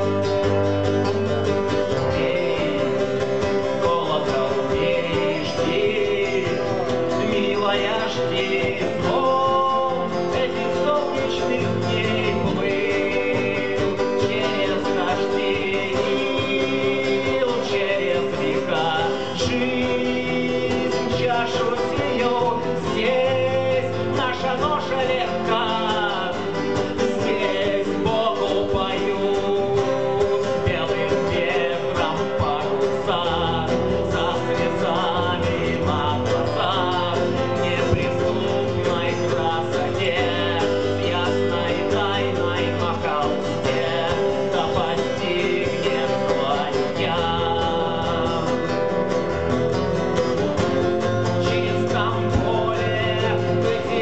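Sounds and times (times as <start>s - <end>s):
acoustic guitars strummed: 0.0s - 54.0s
man singing: 0.0s - 54.0s.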